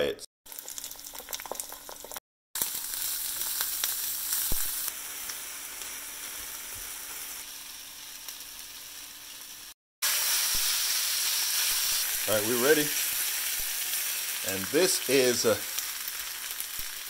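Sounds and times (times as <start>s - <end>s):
food sizzling in a pan: 0.5s - 17.0s.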